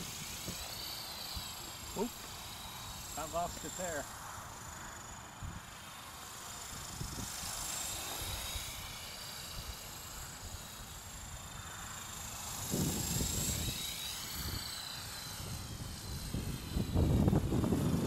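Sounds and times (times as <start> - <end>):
rc helicopter whining: 0.0 - 18.0.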